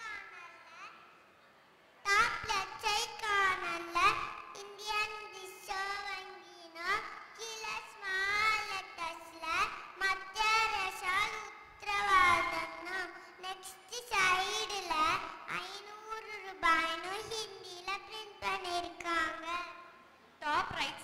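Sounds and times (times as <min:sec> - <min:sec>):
girl speaking into a microphone: 0:00.0 - 0:01.2, 0:02.1 - 0:21.0.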